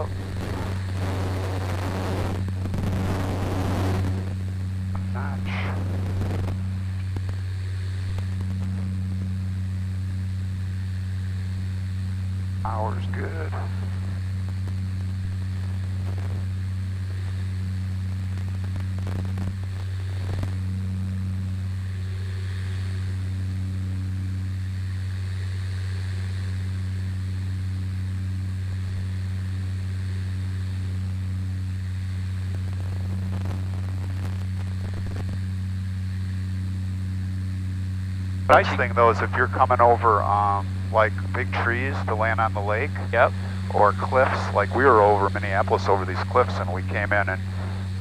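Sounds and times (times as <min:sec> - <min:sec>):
turboprop engine drone: 0:00.0 - 0:48.0.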